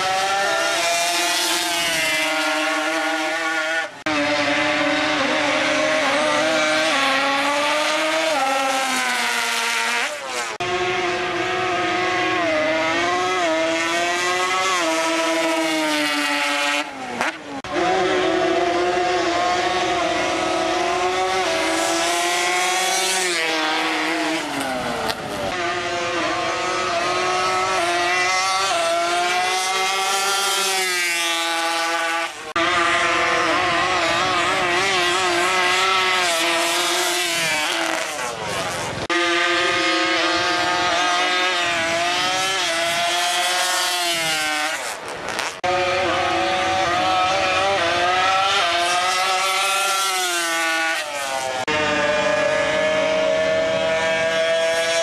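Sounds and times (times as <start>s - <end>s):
atv engine revving hard: 0.0s - 55.0s.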